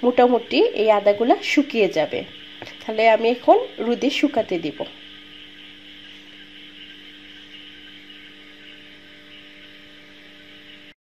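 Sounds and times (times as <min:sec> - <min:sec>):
steady background hum with hiss: 0:00.0 - 0:11.0.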